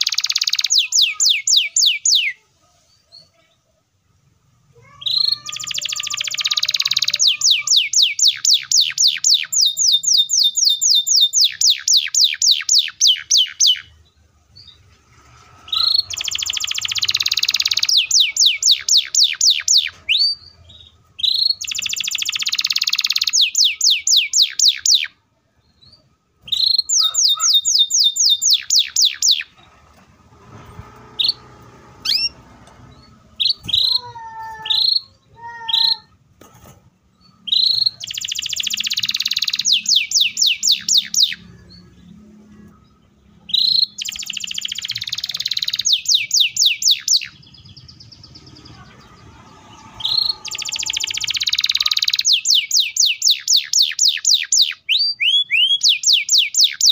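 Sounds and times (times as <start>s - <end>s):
canary singing: 0.0s - 3.5s, 4.7s - 36.3s, 37.0s - 56.9s
soft bird chirps: 0.0s - 29.8s, 30.5s - 36.2s, 37.0s - 56.9s.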